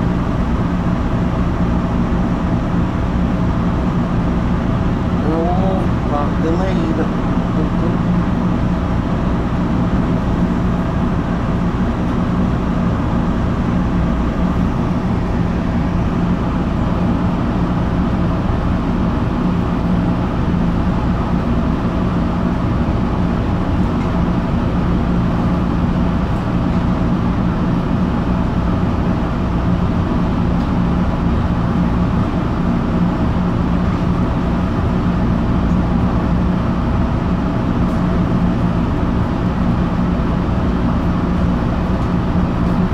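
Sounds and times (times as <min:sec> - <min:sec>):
constant hum: 0:00.0 - 0:42.9
subway car rumble: 0:00.0 - 0:42.9.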